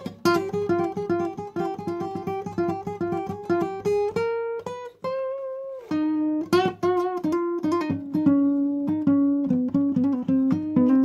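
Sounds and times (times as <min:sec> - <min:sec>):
plucked guitar melody: 0:00.0 - 0:11.0.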